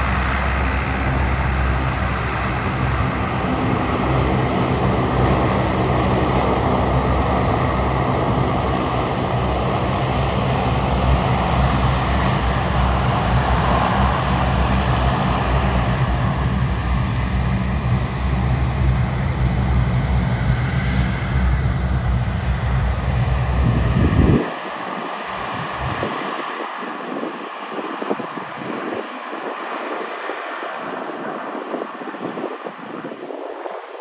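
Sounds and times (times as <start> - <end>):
aircraft engines roaring: 0.0 - 34.0.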